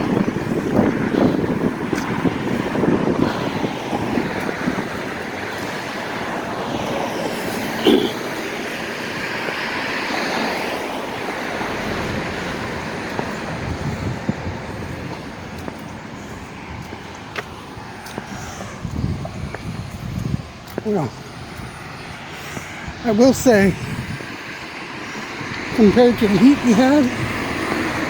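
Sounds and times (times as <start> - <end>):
car passing by: 0.0 - 28.0.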